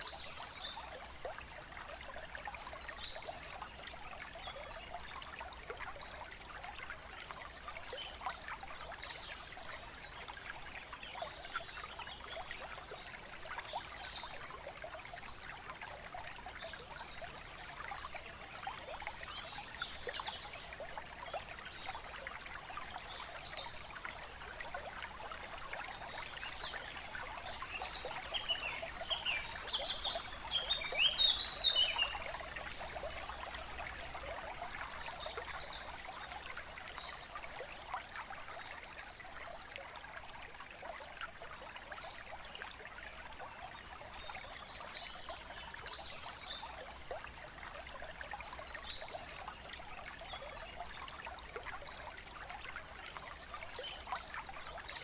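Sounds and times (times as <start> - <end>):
running water trickling: 0.0 - 55.0.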